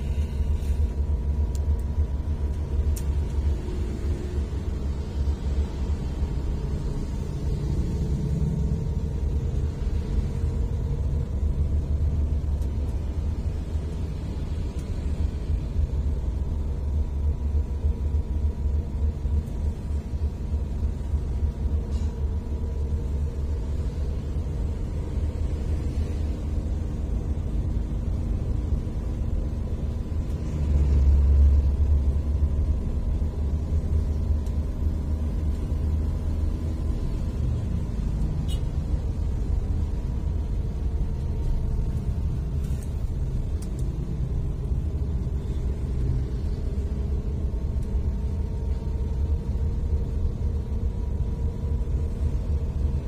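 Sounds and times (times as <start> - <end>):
road and wind noise: 0.0 - 53.0
vehicle engine drone: 0.0 - 53.0.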